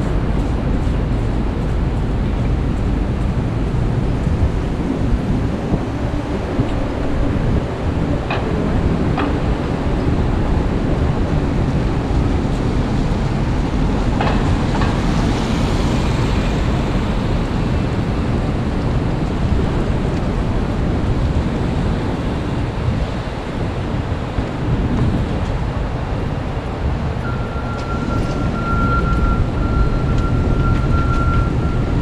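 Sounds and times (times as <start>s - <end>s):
rain: 0.0s - 32.0s
traffic rumble: 0.0s - 32.0s.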